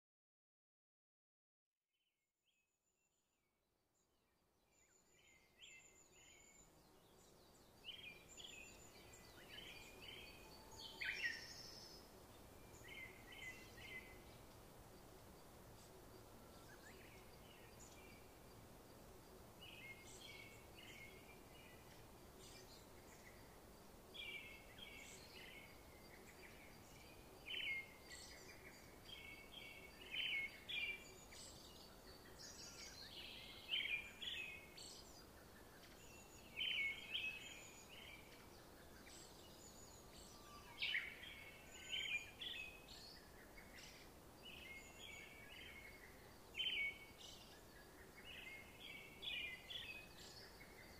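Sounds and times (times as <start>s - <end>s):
faint bird song: 2.4s - 50.9s
low background hiss: 3.6s - 50.9s.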